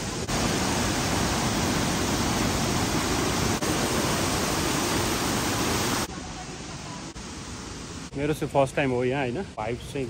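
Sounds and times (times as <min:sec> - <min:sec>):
stream rushing over rocks: 0:00.0 - 0:08.1.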